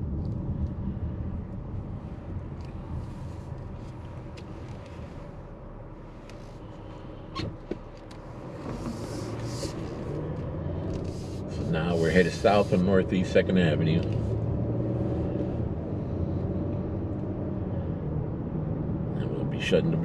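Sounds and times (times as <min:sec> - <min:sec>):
car engine and tyres humming: 0:00.0 - 0:20.0.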